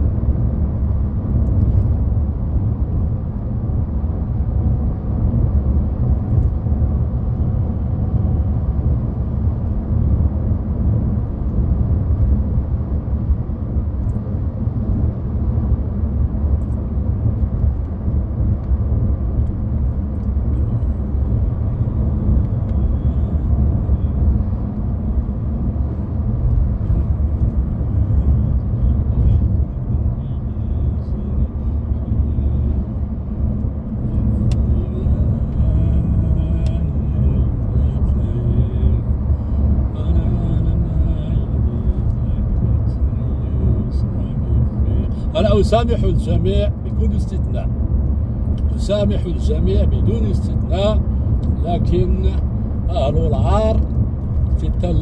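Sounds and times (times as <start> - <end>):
car driving heard from inside: 0.0 - 55.0.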